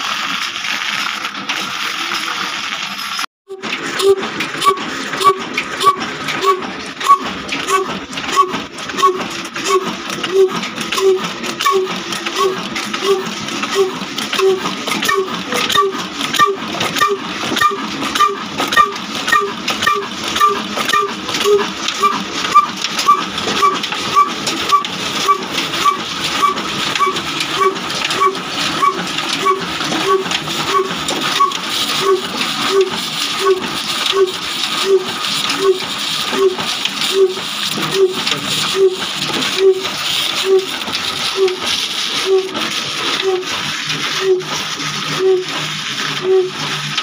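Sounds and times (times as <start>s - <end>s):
diesel engine running slowly: 0.0s - 47.0s.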